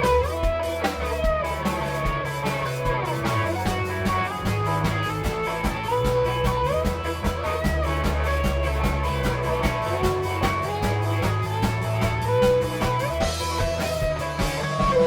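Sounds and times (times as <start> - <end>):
bass guitar: 0.0 - 15.0
drum kit beat: 0.0 - 15.0
lead guitar bending notes: 0.0 - 15.0.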